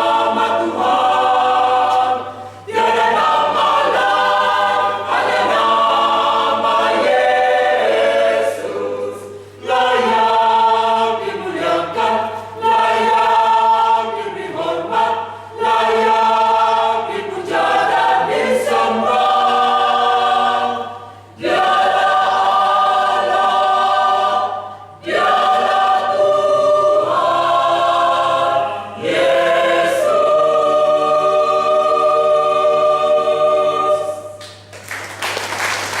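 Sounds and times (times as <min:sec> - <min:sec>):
choir singing a hymn: 0:00.0 - 0:34.7.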